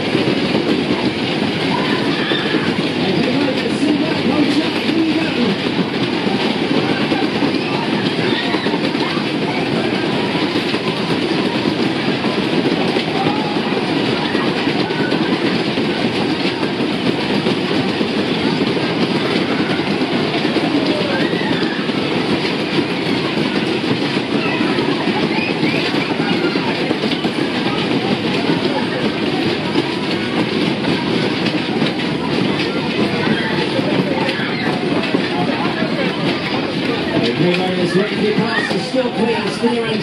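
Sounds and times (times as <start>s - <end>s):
faint voices: 0.0s - 40.0s
ride wheels rumbling rattle: 0.0s - 40.0s.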